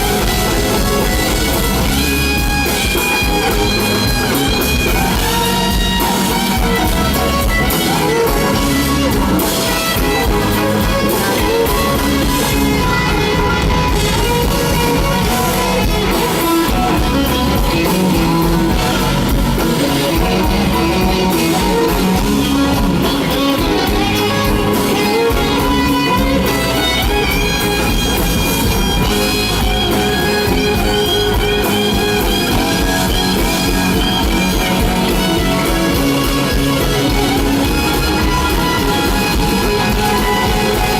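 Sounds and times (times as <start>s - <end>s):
bass guitar: 0.0s - 40.9s
drums: 0.0s - 40.9s
lead electric guitar bending notes: 0.0s - 40.9s.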